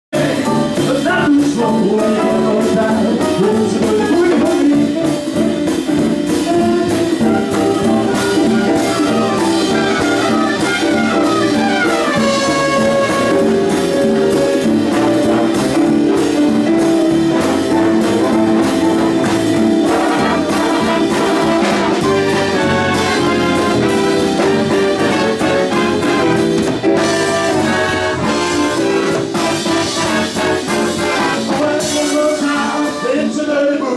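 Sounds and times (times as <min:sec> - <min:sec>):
live jazz band with horns: 0:00.1 - 0:33.9.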